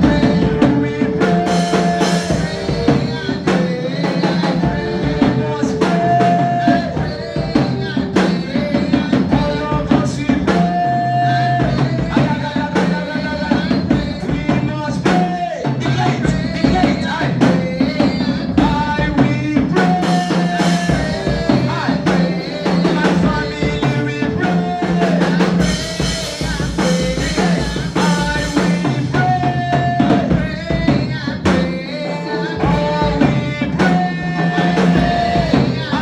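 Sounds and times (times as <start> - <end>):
bass line: 0.0 - 36.0
drum kit beat: 0.0 - 36.0
gospel worship music: 0.0 - 36.0.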